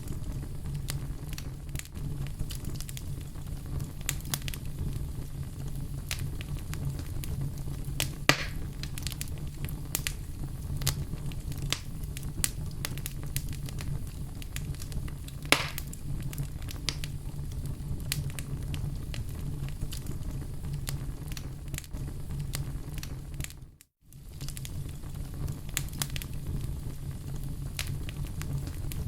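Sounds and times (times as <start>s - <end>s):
fire crackling in fireplace: 0.0s - 29.0s
low rumble of flames: 0.0s - 29.0s
sharp pops of fire: 0.0s - 29.0s.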